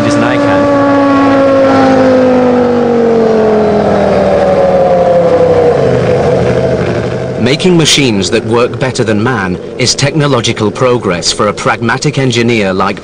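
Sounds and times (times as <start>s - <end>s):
racing car engine running hard: 0.0s - 13.0s.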